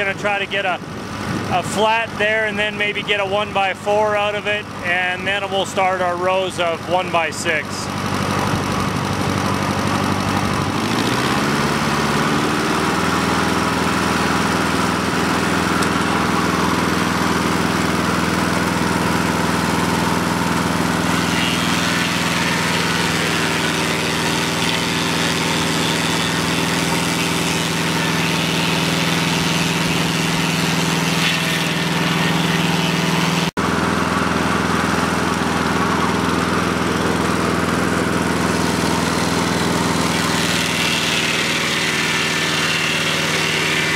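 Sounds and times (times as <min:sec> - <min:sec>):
circular saw cutting log: 0:00.0 - 0:43.9
engine running loud: 0:00.0 - 0:43.9.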